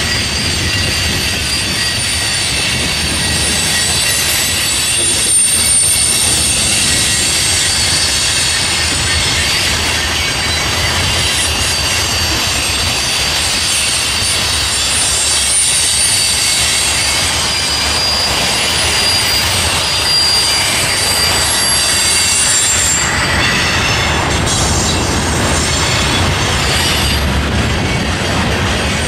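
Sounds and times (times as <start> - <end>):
freight train rumbling on bridge: 0.0 - 29.0
high wheel squeal: 0.0 - 29.0.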